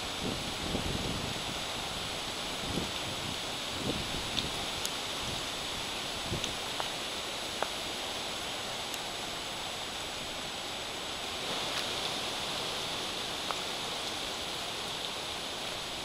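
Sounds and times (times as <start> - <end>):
wind hissing through leaves: 0.0 - 16.0.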